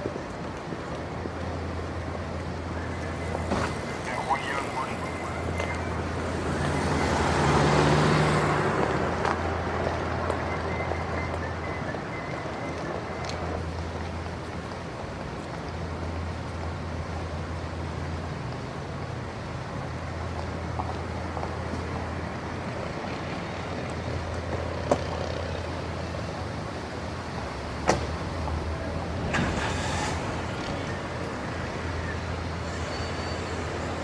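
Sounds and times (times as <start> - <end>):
light traffic: 0.0 - 34.0.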